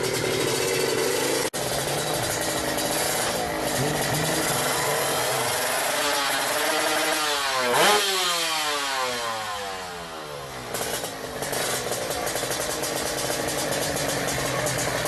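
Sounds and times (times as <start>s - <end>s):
engine running steadily: 0.0s - 15.0s
motorcycle passing at high revs: 0.0s - 15.0s.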